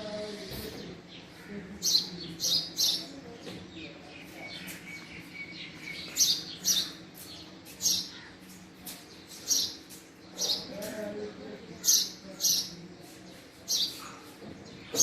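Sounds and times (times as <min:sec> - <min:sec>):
sparrow chirping: 0:01.1 - 0:15.0.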